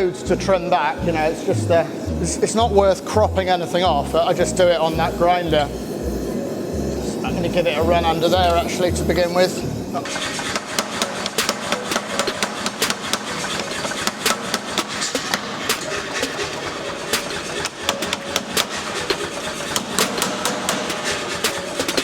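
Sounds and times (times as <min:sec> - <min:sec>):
belt grinder grinding steel: 0:01.1 - 0:22.0.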